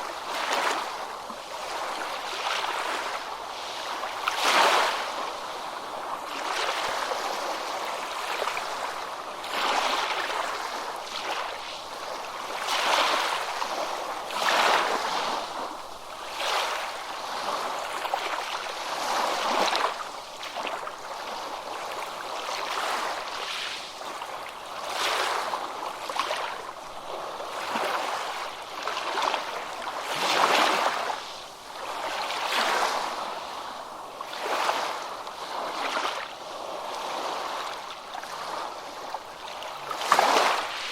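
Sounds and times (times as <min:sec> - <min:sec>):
ocean surf breaking on beach: 0:00.0 - 0:40.9.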